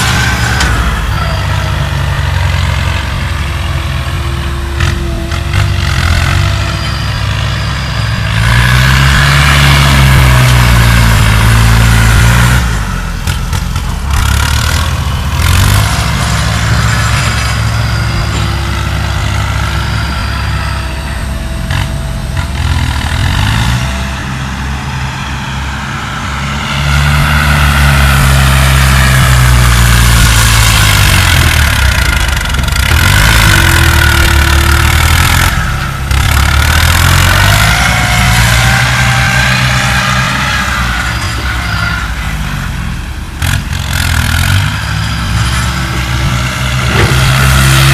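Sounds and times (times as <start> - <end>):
heavy machinery diesel engine working: 0.0 - 47.9.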